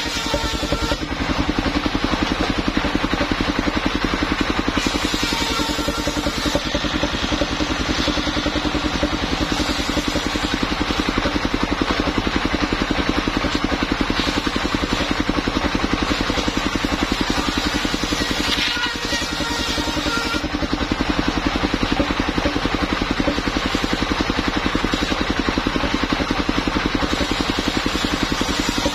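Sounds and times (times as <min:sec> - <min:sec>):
sawmill engine running: 0:00.0 - 0:28.9.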